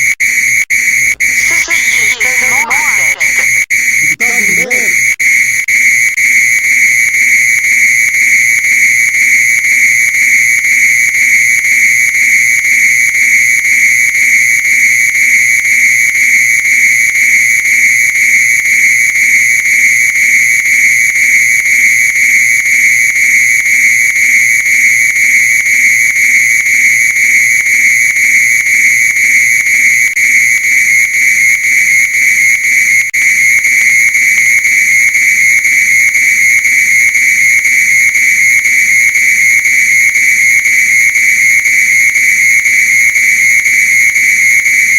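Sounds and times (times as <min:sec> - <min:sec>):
fire alarm high-pitched tone: 0:00.1 - 0:44.9.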